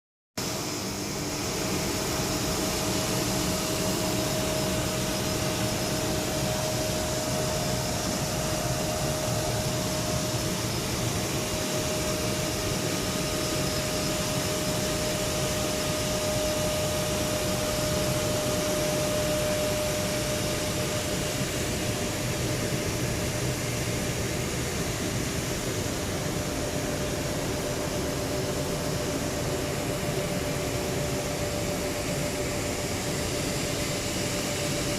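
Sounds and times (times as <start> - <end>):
jet engine whining: 0.4 - 34.9.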